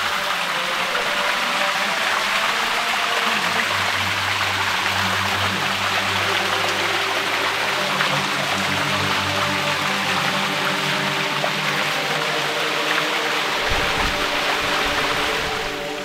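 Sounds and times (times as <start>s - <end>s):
soft background music: 0.0s - 16.0s
water rushing down stone steps: 0.0s - 16.0s.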